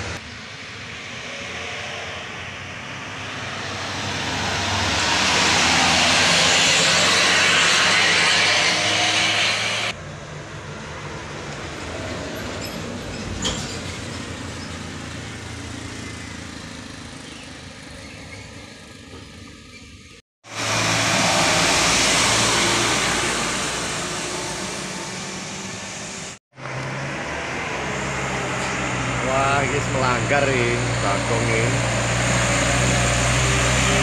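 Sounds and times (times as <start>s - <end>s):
trucks passing: 0.0s - 34.0s.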